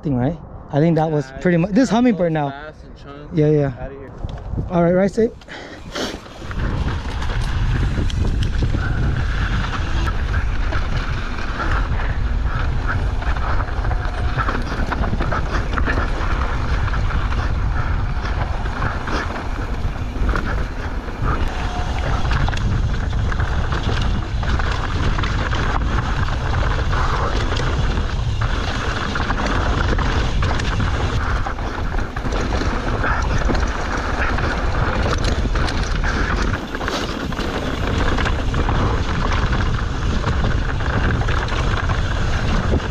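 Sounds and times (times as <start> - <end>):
wind buffeting microphone: 0.0 - 42.9
bike rattling and clicking: 4.1 - 42.9
tyres on dirt: 5.3 - 42.9.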